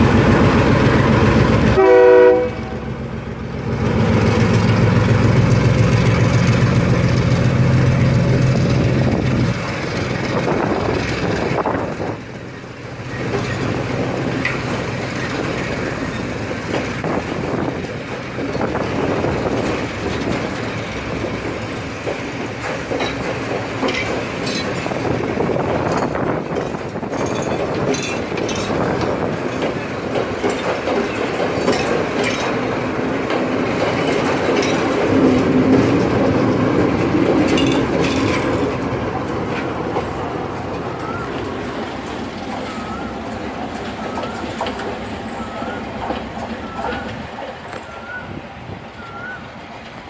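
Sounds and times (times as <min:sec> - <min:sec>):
passenger train rumbling: 0:00.0 - 0:50.0
wheels clicking over rail joints: 0:02.7 - 0:48.2.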